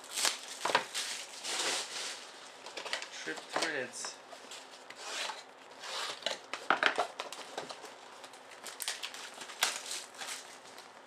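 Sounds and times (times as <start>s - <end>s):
plastic wrap crinkling: 0.0s - 4.9s, 6.1s - 11.0s
cardboard rustling: 0.1s - 11.0s.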